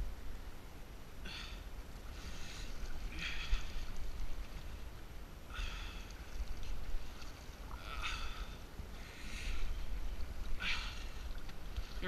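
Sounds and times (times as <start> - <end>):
wind rumble on microphone: 0.0 - 1.1, 1.8 - 12.0.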